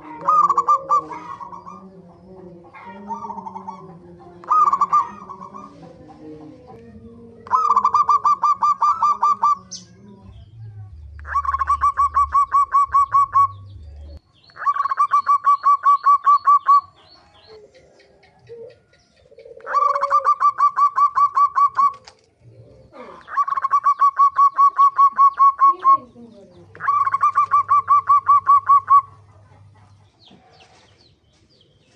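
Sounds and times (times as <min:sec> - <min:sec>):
dove rattling call: 0:00.0 - 0:06.3, 0:07.4 - 0:09.8, 0:11.2 - 0:13.8, 0:14.6 - 0:17.5, 0:18.5 - 0:22.3, 0:23.2 - 0:31.1.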